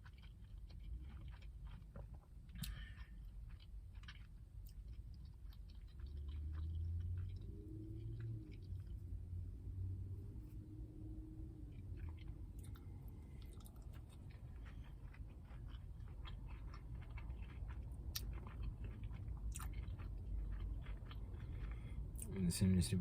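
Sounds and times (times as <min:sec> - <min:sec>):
chewing crispy food: 0:00.0 - 0:23.0.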